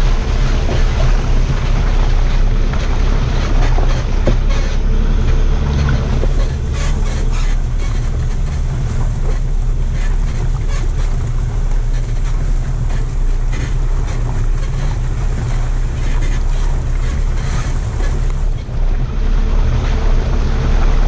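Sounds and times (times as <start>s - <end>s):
tyres splashing through mud: 0.0s - 21.0s
vehicle engine running: 0.0s - 21.0s
wind buffeting microphone: 0.0s - 21.0s.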